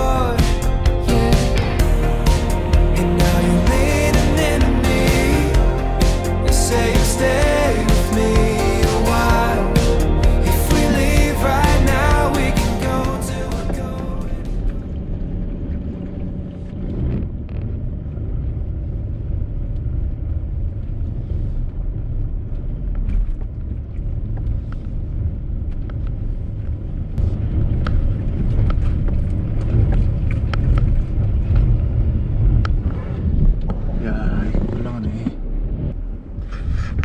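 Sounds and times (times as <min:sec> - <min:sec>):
car engine and tyres rumbling: 0:00.0 - 0:37.0.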